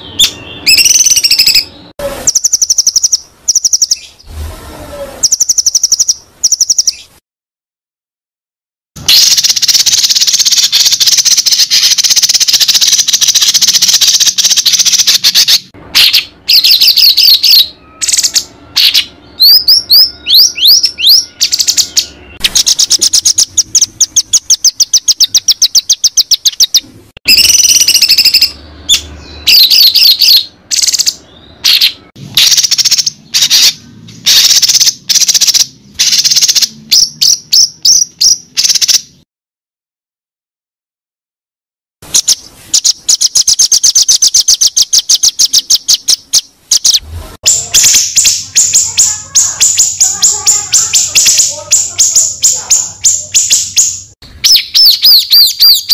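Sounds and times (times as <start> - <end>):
songbird singing: 0.0 - 4.3, 5.2 - 7.2, 9.0 - 39.2, 42.1 - 55.9.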